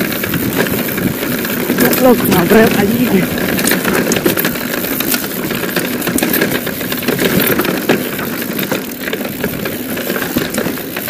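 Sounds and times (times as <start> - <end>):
bike rattling over bumps: 0.0 - 11.0
tyres and wind rushing: 0.0 - 11.0.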